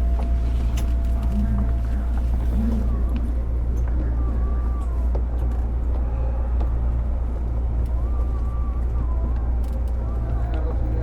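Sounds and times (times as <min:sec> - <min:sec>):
electric train interior hum: 0:00.0 - 0:11.0.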